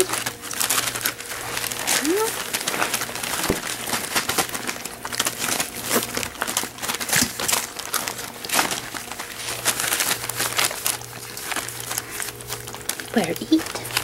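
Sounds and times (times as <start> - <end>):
clicks and rustles: 0.0 - 14.0
newspaper crinkling: 0.0 - 14.0.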